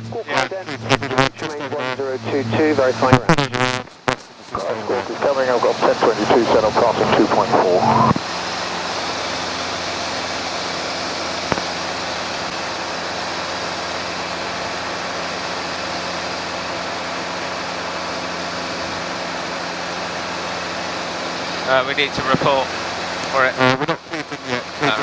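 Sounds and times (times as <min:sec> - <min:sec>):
helicopter engine and rotor drone: 0:01.6 - 0:03.1, 0:04.2 - 0:23.5.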